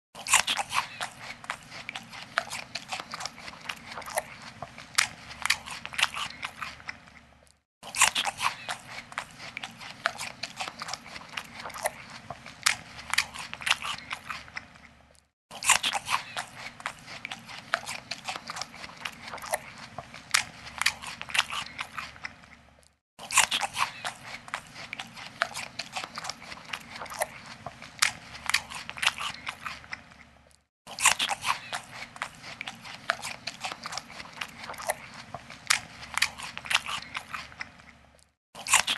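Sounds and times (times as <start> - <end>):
monkey crunching and chewing food: 0.2 - 38.9.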